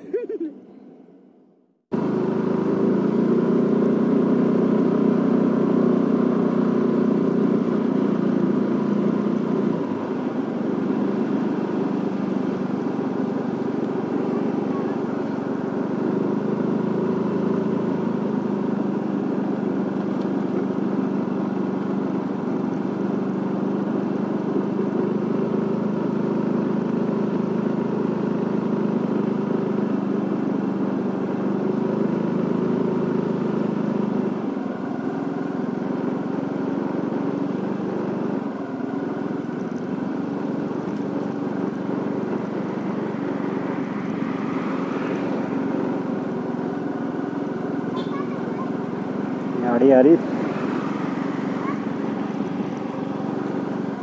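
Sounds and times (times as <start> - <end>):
motorcycle engine running: 1.9 - 54.0.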